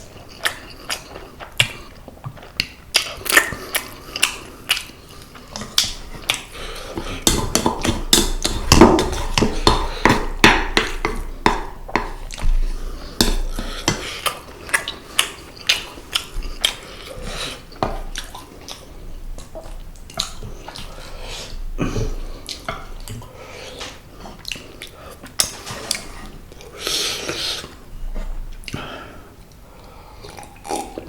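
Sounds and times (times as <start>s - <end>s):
wet chewing and smacking: 0.0s - 26.8s.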